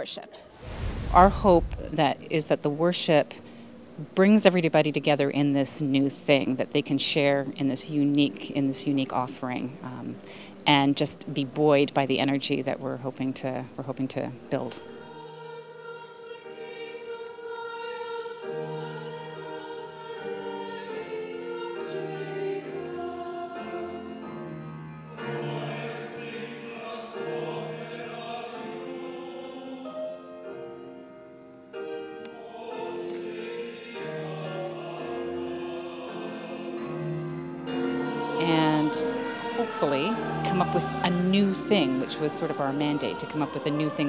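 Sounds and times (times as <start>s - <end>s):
choir singing a hymn: 0.0s - 44.0s.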